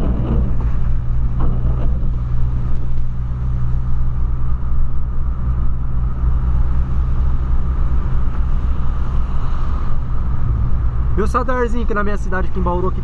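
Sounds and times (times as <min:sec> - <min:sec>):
car engine drone from inside: 0:00.0 - 0:13.0
tyre noise on wet road: 0:00.0 - 0:13.0.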